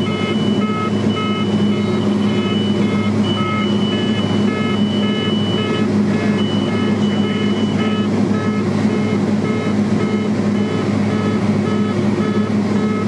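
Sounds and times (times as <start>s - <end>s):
cockpit warning beeps: 0.0s - 13.0s
turboprop engine droning: 0.0s - 13.0s.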